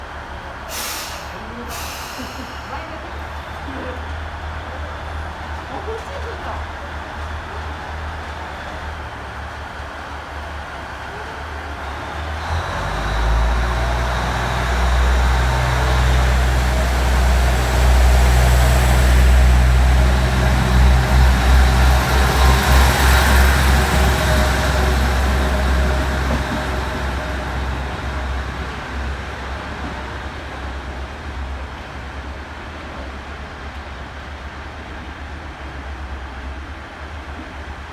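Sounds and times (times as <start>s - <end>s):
railcar diesel engine throbbing: 0.0s - 37.9s.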